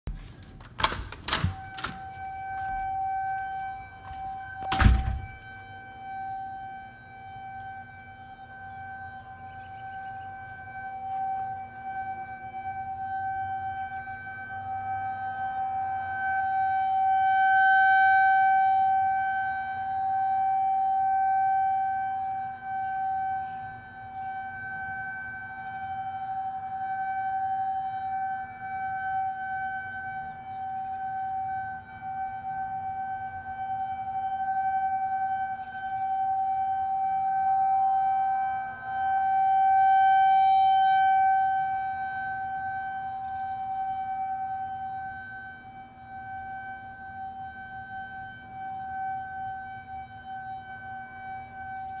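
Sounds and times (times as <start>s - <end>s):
warning siren steady tone: 0.1s - 52.0s.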